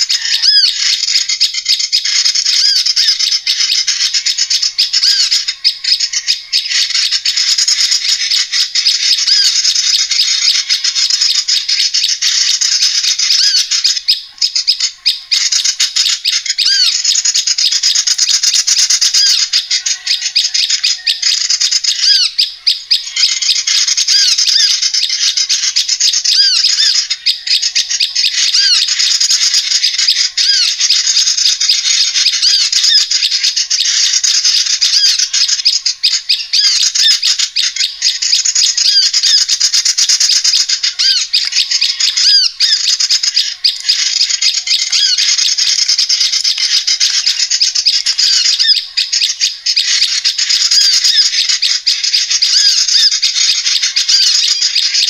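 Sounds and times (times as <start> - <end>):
rising and falling bird chirps: 0.0 - 55.0
songbirds chattering: 0.0 - 55.0.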